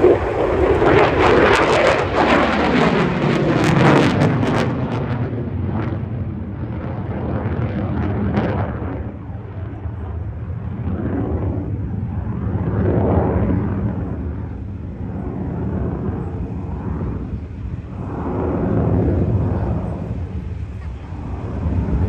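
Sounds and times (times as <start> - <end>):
aircraft engine rumble: 0.0 - 22.0.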